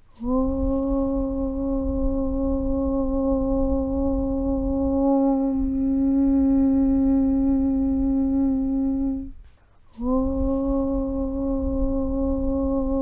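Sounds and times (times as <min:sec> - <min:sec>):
person chanting om: 0:00.0 - 0:13.0.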